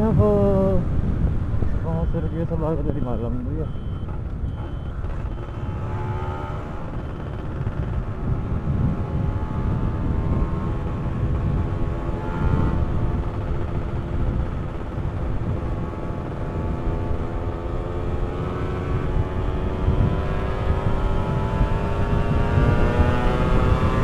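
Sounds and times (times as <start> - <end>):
two-stroke motorcycle engine: 3.8 - 24.0.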